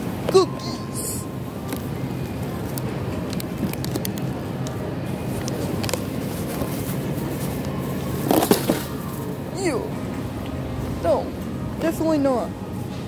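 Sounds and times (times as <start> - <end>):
store background hum: 0.0 - 13.0.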